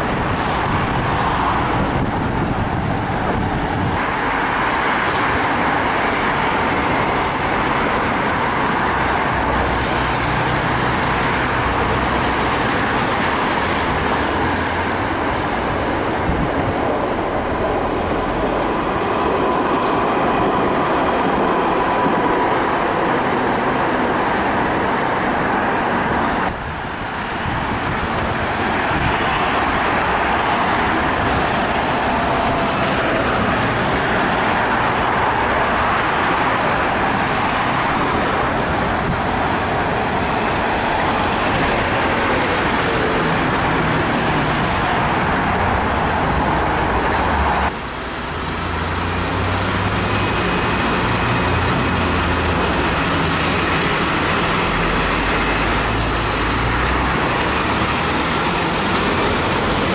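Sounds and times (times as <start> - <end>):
passing road traffic: 0.0 - 59.9.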